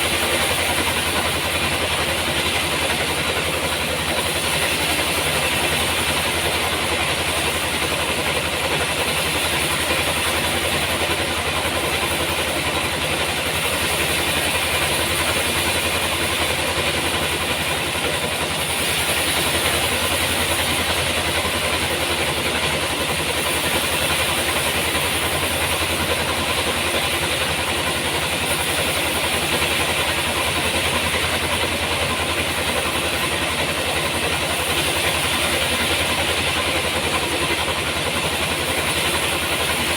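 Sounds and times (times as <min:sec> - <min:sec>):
sawmill drone: 0:00.0 - 0:39.9.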